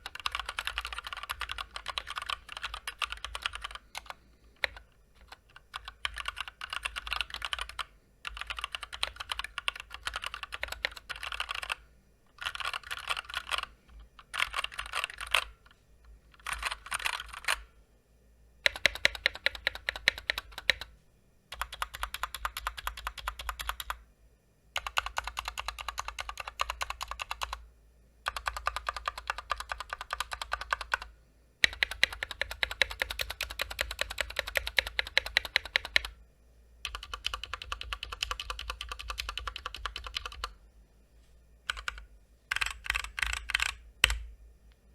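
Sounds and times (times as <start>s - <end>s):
mechanical keyboard typing: 0.0s - 17.7s, 18.6s - 20.9s, 21.5s - 24.0s, 24.8s - 36.2s, 36.8s - 40.6s, 41.7s - 44.3s.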